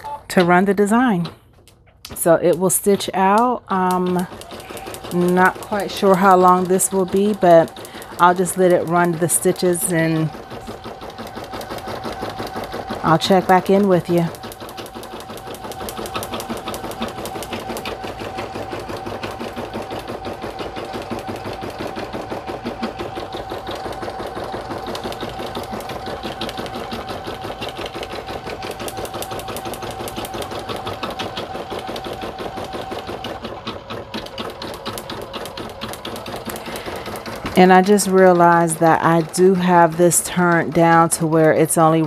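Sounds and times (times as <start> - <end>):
embroidery machine stitching: 0.3 - 42.0.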